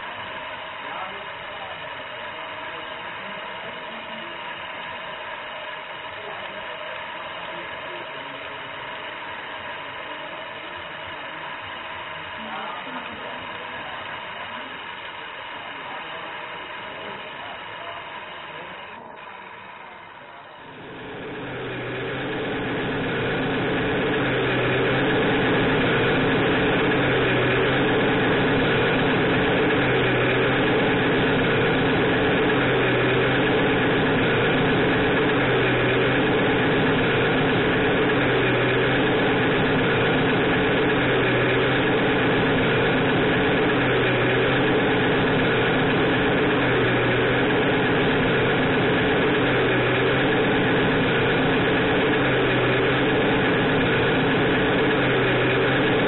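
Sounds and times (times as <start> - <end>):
electronic diesel engine idle sound: 0.0 - 56.0.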